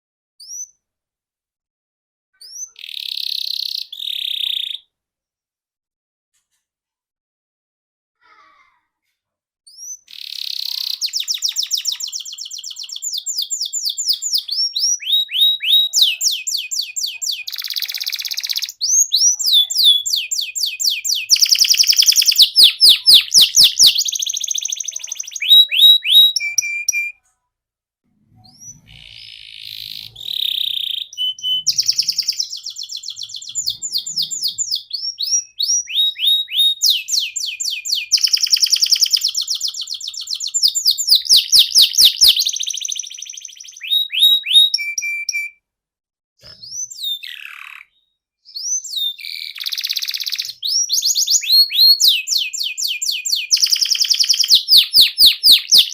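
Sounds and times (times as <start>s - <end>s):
canary singing trills: 2.4s - 4.8s, 9.7s - 27.2s, 28.4s - 45.6s, 46.4s - 55.9s.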